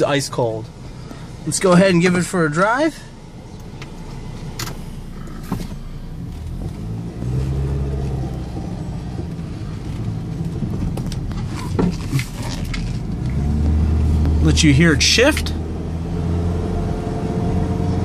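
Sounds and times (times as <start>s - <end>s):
pickup truck engine driving: 0.0s - 18.0s.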